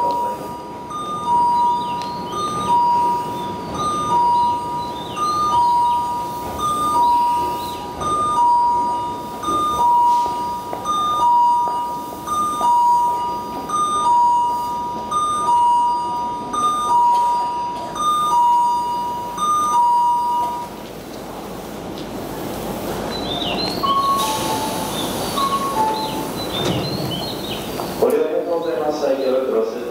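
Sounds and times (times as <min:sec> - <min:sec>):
high chirping tones: 0:00.0 - 0:20.8, 0:23.0 - 0:28.0
crowd and station noise: 0:00.0 - 0:29.9.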